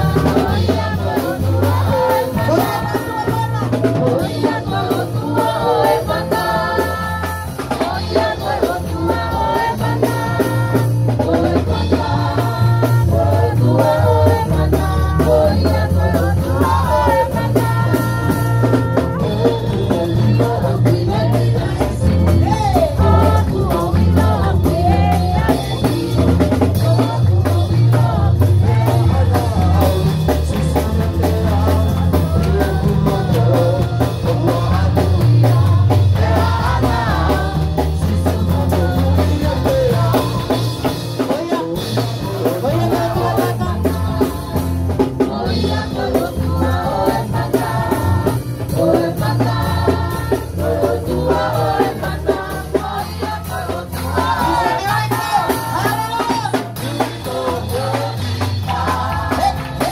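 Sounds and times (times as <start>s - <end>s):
live band with drums and guitar: 0.0s - 59.9s
women singing worship song: 0.0s - 59.9s.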